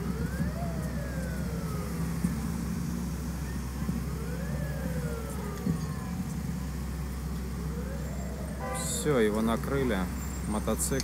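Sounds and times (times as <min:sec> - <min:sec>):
rumble of engines and traffic: 0:00.0 - 0:11.0
siren wailing: 0:00.0 - 0:11.0.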